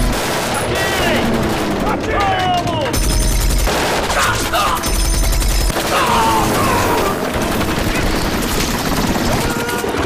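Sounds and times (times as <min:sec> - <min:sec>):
rapid machine-gun fire: 0:00.0 - 0:10.0.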